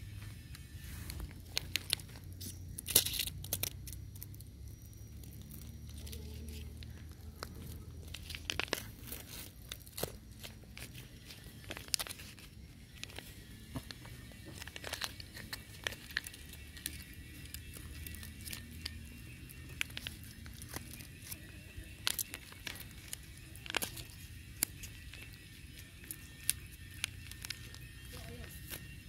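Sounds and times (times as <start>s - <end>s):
leaf crackling: 0.6s - 29.0s
cats chewing and smacking: 1.0s - 29.0s.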